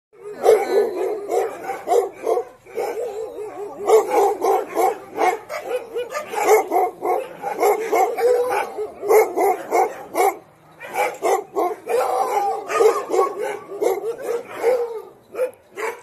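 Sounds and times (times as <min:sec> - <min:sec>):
huskies barking and yipping: 0:00.2 - 0:16.0.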